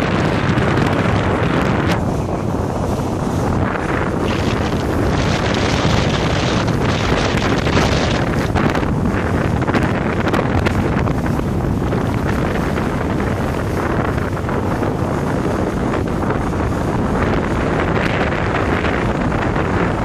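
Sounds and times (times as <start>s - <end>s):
boat rushing through water: 0.0s - 20.0s
wind buffeting microphone: 0.0s - 20.0s.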